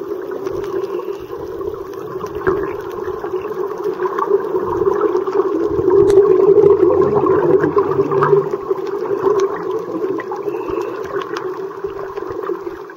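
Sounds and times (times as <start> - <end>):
bubbling and crackles: 0.0 - 12.9
muffled rushing water: 0.0 - 12.9.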